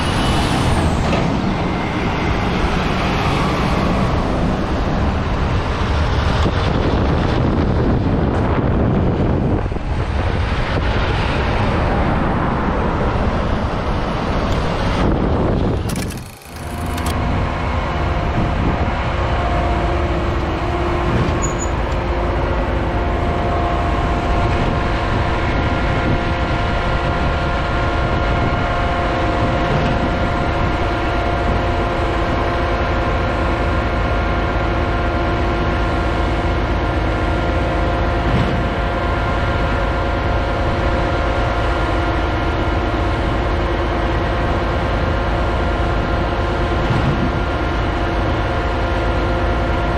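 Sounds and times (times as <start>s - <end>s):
diesel truck engines droning: 0.0s - 49.9s
road traffic passing: 0.0s - 49.9s.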